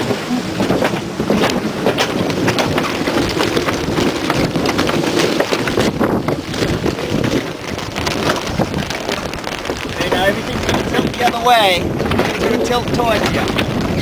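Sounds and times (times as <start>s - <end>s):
short crackles: 0.0s - 14.0s
water rushing and splashing: 0.0s - 14.0s
wind buffeting microphone: 0.0s - 14.0s.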